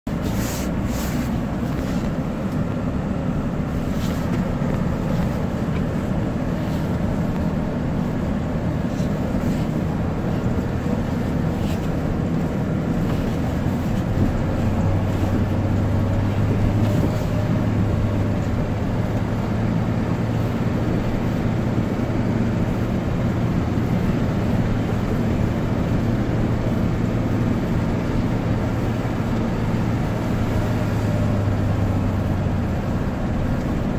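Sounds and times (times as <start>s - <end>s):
road noise: 0.0s - 33.9s
truck engine drone: 0.0s - 33.9s.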